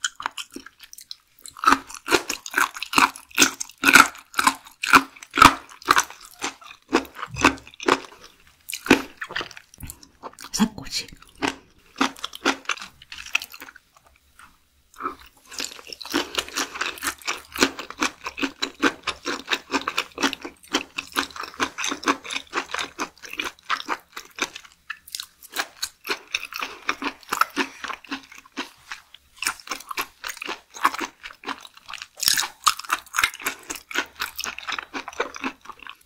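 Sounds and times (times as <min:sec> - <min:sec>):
crunchy chewing: 0:00.0 - 0:10.5, 0:11.2 - 0:36.0.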